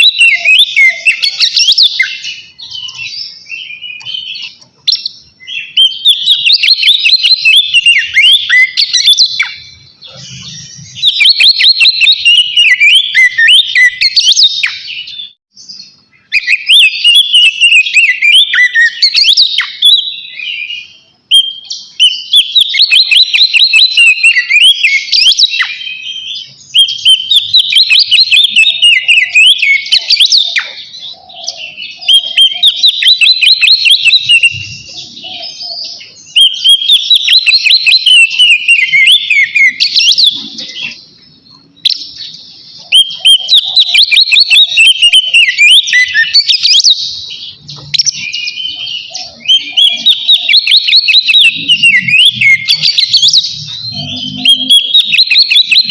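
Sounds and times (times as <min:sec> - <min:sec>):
magpie-robin singing: 0:00.0 - 0:55.9.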